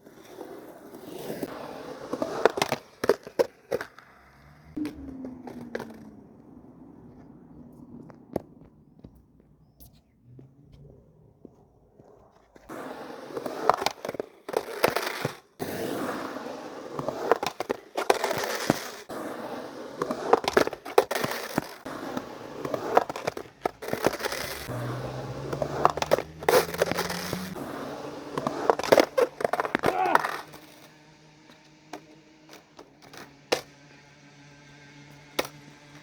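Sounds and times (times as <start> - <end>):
skateboard clicks and knocks: 0.0 - 33.8, 35.1 - 36.0
skateboard wheels rolling on pavement: 0.0 - 36.0.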